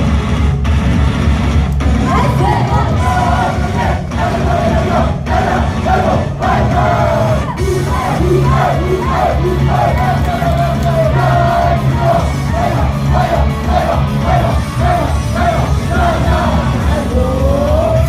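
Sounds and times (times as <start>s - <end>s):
live pop music over loudspeakers: 0.0s - 18.0s
crowd shouting: 2.1s - 18.0s.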